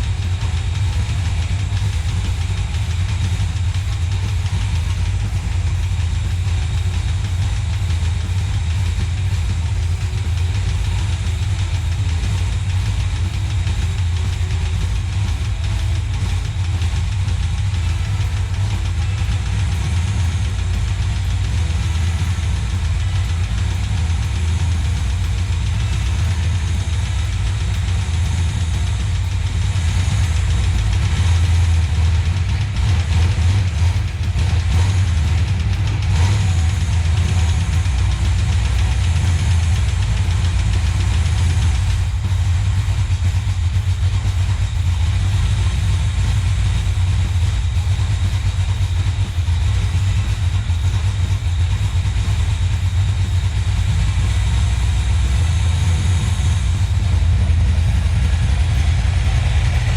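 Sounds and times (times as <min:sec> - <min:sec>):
car engine idling with deep exhaust: 0:00.0 - 0:59.9.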